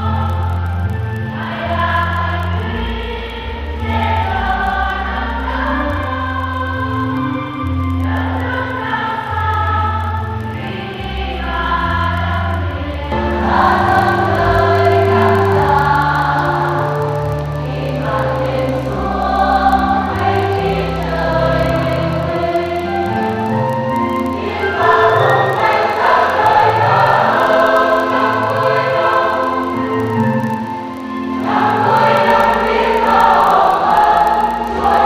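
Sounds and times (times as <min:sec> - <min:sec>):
choir singing a slow hymn: 0:00.0 - 0:35.0
low held accompaniment notes: 0:00.0 - 0:35.0.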